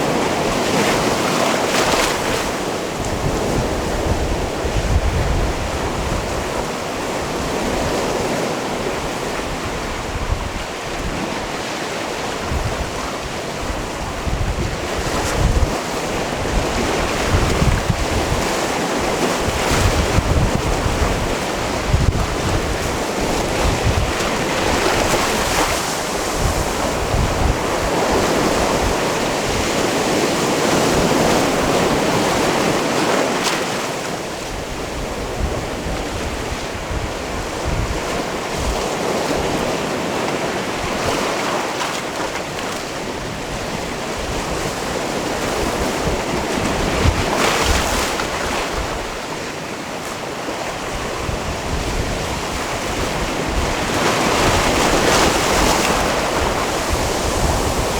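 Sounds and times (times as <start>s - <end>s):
waves washing onto rocky shore: 0.0s - 57.9s
wind buffeting microphone: 0.0s - 57.9s.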